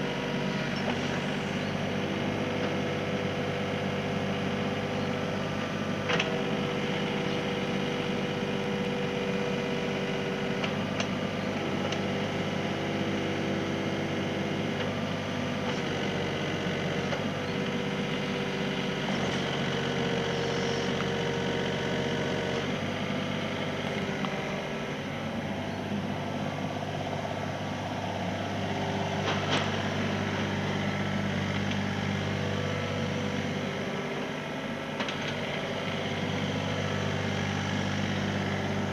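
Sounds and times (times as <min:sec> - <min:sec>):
mini excavator diesel engine running: 0:00.0 - 0:38.9.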